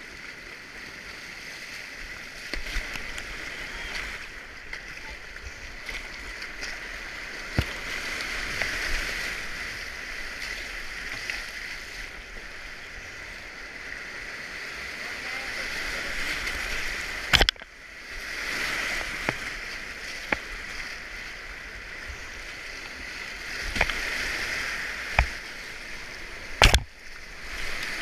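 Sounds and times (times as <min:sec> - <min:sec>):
river rapid rushing water: 0:00.0 - 0:28.0.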